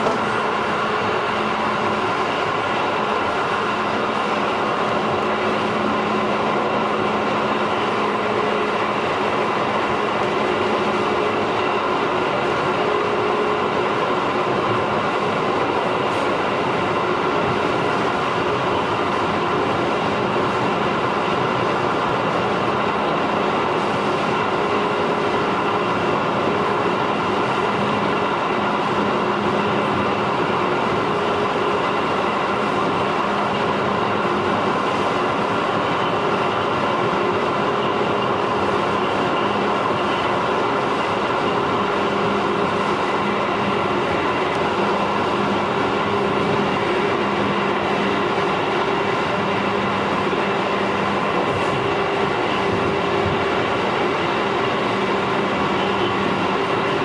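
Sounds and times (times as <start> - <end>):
steady train hum: 0.0 - 57.0
train wheels rumbling on rail: 0.0 - 57.0.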